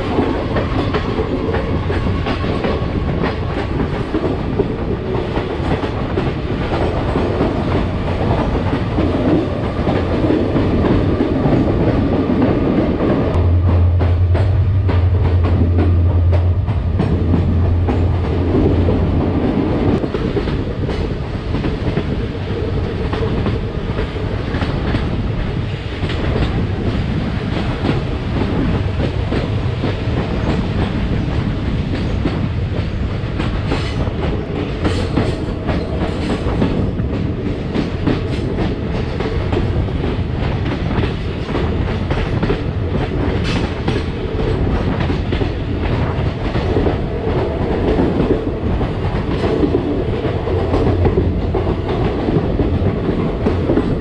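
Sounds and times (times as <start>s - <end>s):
train rumble: 0.0s - 54.0s
train wheels clicking over rails: 0.0s - 54.0s.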